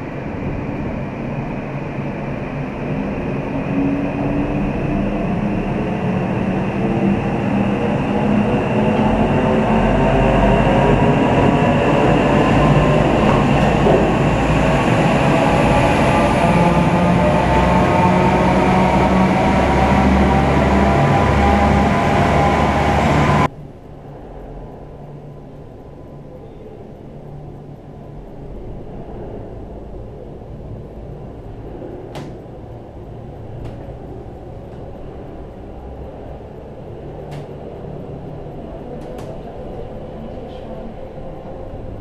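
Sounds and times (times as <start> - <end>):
low rumble of station hall: 0.0 - 42.0
machinery whining and rumbling: 0.0 - 42.0.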